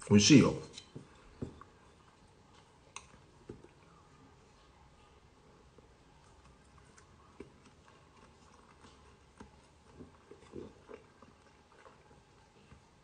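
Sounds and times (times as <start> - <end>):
person chewing food: 0.8 - 4.0, 5.6 - 13.0.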